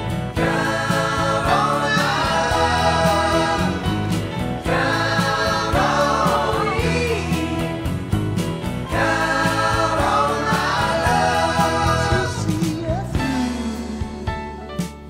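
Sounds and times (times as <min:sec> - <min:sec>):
song with singing: 0:00.2 - 0:08.0, 0:08.8 - 0:14.6.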